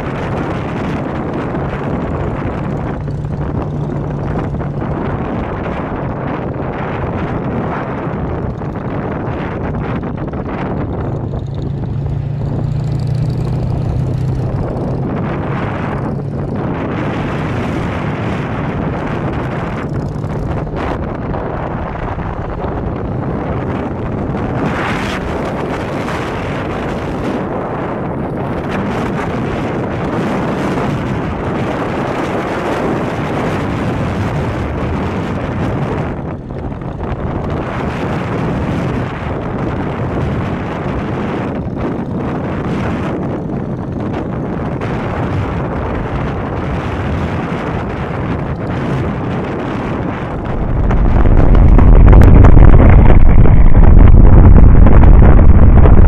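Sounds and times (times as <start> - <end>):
motorcycle engine running: 0.0 - 56.0
road noise: 0.0 - 56.0
wind rushing over microphone: 0.0 - 56.0.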